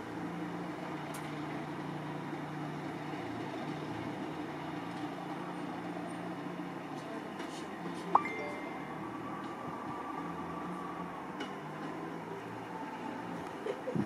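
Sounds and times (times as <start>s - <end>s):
diesel train engines droning: 0.0s - 14.0s.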